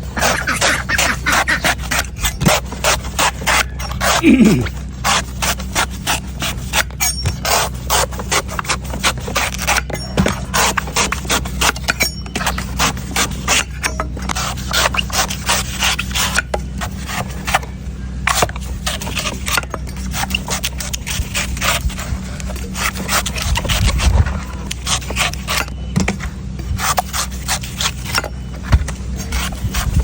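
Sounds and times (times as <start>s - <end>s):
steady low hum: 0.0s - 30.0s
knife chopping coconut: 0.2s - 17.7s, 18.3s - 24.0s, 24.6s - 30.0s.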